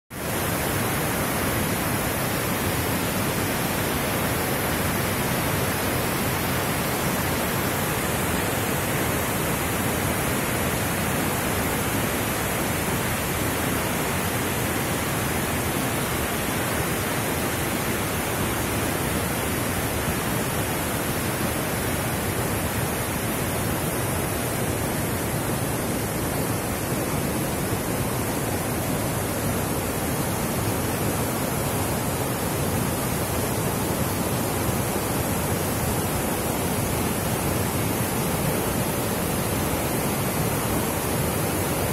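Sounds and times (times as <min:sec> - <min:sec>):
river rushing over rapids: 0:00.1 - 0:41.9.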